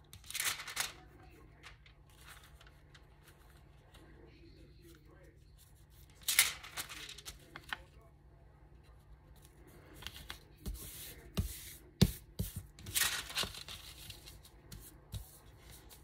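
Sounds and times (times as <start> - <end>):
paper rustling and sliding: 0.1 - 4.2, 5.6 - 7.8, 9.3 - 16.0.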